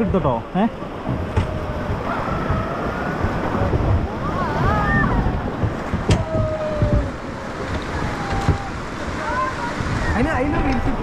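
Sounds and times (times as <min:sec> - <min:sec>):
river rapids rushing: 0:00.0 - 0:11.0
wind buffeting microphone: 0:00.0 - 0:11.0.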